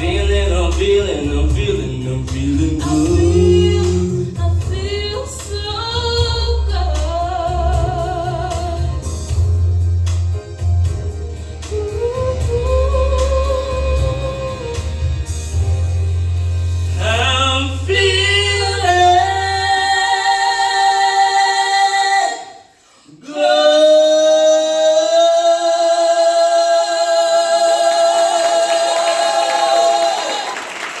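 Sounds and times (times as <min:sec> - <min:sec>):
two voices singing in harmony: 0:00.0 - 0:09.3, 0:11.7 - 0:15.2, 0:17.0 - 0:30.6.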